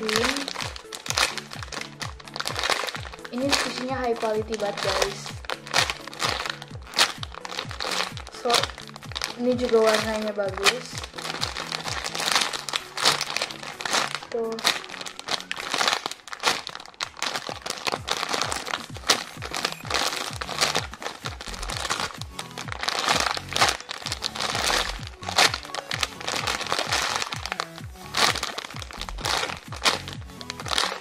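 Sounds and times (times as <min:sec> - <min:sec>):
background music with bass beat: 0:00.0 - 0:16.4, 0:17.2 - 0:31.0
foam toy crinkling: 0:00.0 - 0:31.0.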